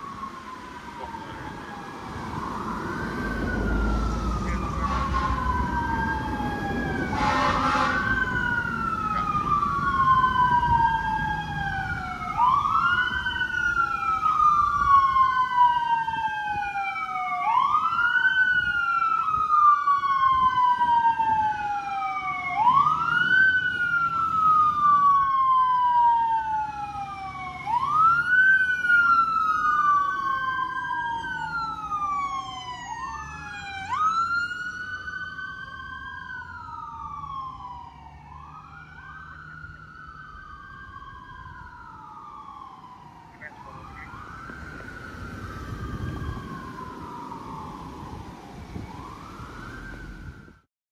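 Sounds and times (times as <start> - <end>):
engine and road rumble: 0.0 - 50.7
fire truck siren wailing: 0.0 - 50.7.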